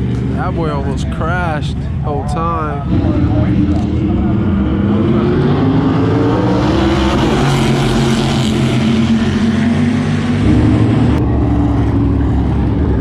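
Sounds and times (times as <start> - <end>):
race car engines running hard: 0.0 - 13.0.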